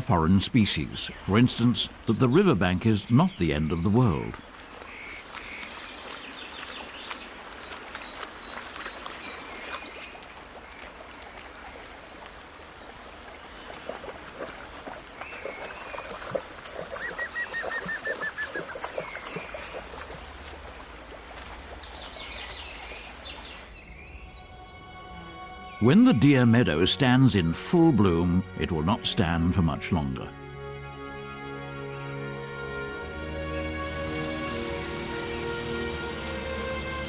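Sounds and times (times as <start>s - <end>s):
birds calling: 0.1s - 10.9s, 12.7s - 37.0s.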